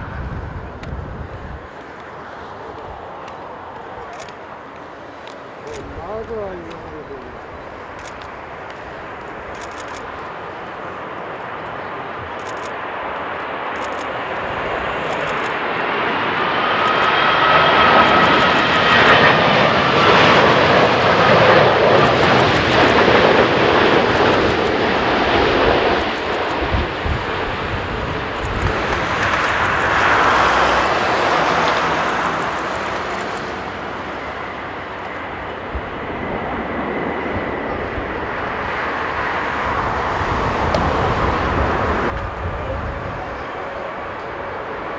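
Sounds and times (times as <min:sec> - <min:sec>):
jet airliner passing low: 0:00.0 - 0:44.9.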